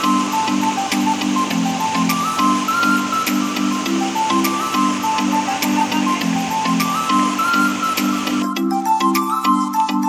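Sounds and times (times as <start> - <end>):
melody of short high notes: 0.0 - 10.0.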